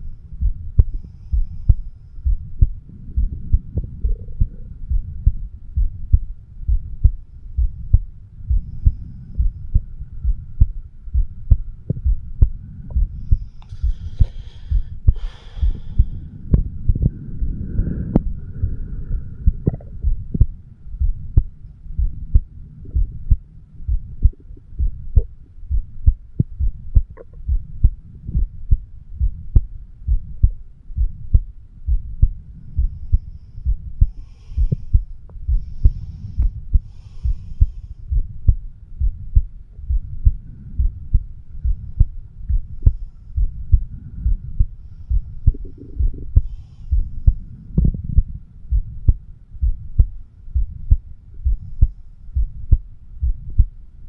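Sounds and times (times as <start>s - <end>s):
heartbeat muffled thumps: 0.0s - 53.8s.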